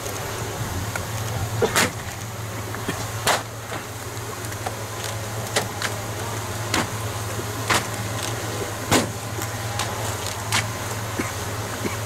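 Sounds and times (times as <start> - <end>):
bonfire rumbling: 0.0 - 12.0
fire popping and cracking: 0.0 - 12.0.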